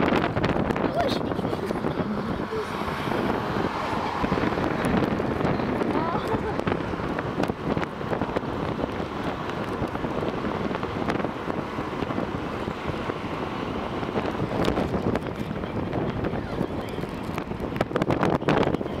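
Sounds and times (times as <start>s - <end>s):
car road noise from inside: 0.0s - 19.0s
wind buffeting microphone: 0.0s - 19.0s.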